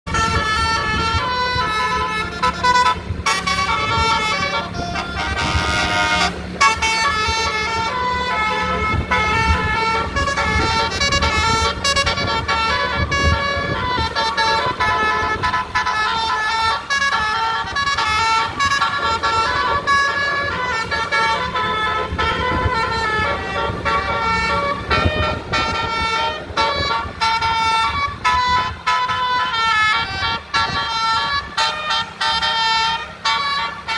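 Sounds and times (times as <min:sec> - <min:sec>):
musical bus horn tune: 0:00.1 - 0:33.9.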